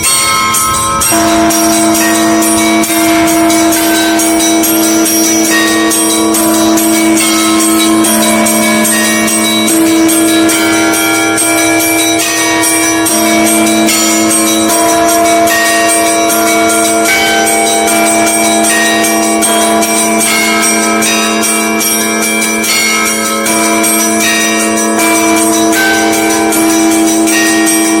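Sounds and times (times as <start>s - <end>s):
hum of large bells: 0.0s - 28.0s
small church bells ringing rapidly: 0.0s - 28.0s.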